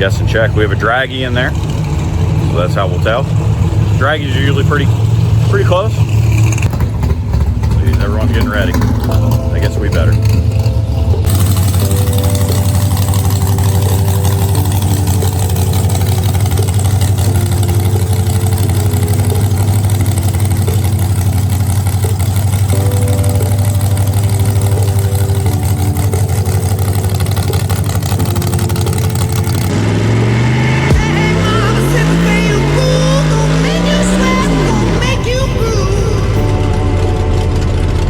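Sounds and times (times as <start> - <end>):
background music: 0.0 - 6.6, 7.8 - 38.0
race engine idling: 0.0 - 38.0.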